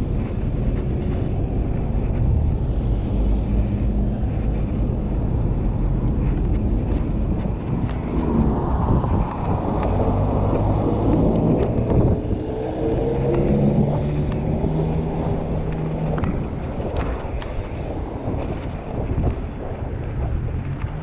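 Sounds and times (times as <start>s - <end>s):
passing vehicle engine: 0.0s - 21.0s
road traffic: 0.0s - 21.0s
wind rumbling on microphone: 0.0s - 21.0s.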